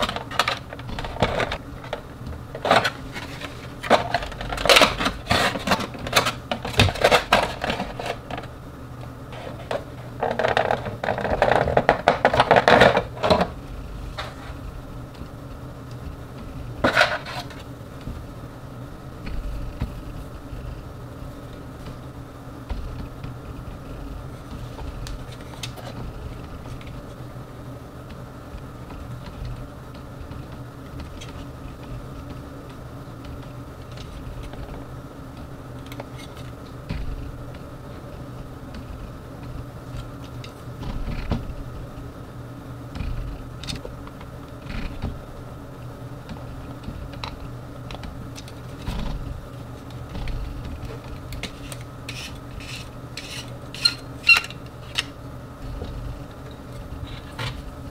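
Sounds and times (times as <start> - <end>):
background hum: 0.0 - 57.9.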